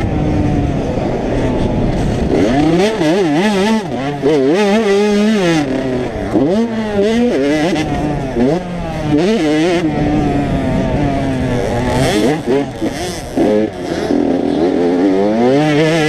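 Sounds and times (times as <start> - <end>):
two-stroke motocross bikes revving: 0.0 - 16.0.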